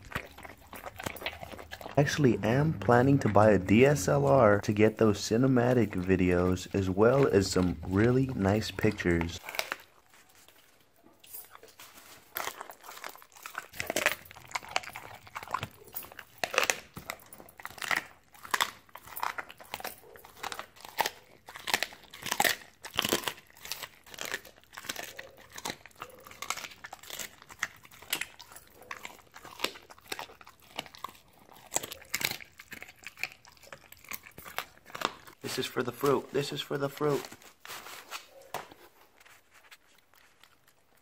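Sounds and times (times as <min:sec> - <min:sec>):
dog chewing meat: 0:00.0 - 0:35.5, 0:39.7 - 0:41.0.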